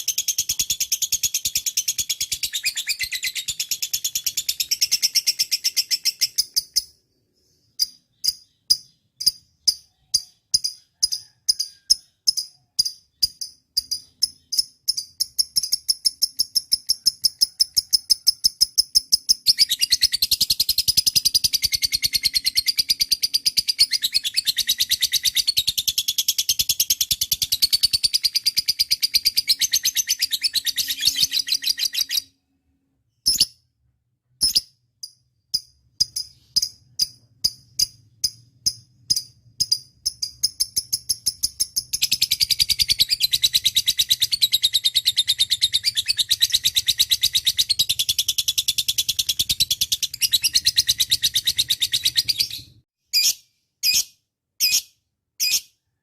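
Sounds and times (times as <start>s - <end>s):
lovebird chirping: 0.0s - 32.5s, 33.1s - 33.7s, 34.3s - 56.0s.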